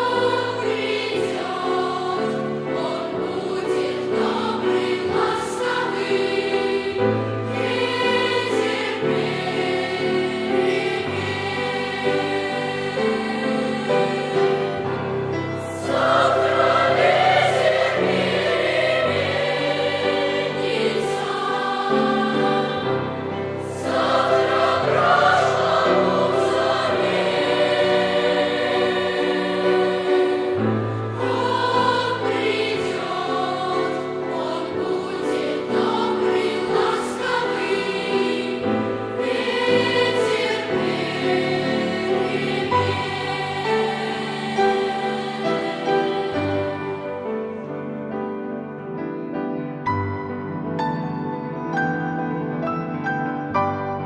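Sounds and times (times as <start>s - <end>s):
boys' choir singing in harmony: 0.0s - 48.8s.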